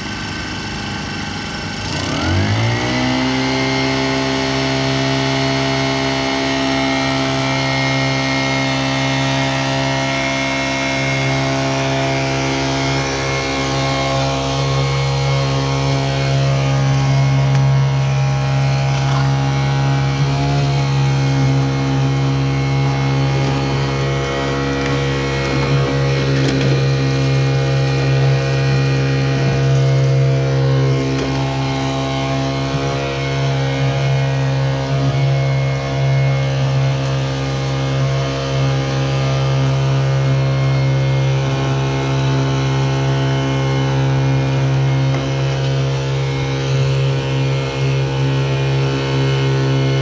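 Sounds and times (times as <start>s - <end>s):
small gasoline engine running: 0.0s - 50.0s.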